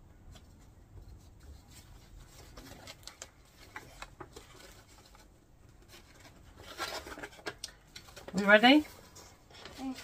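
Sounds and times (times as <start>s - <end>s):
paper rustling and crinkling: 0.3s - 10.0s.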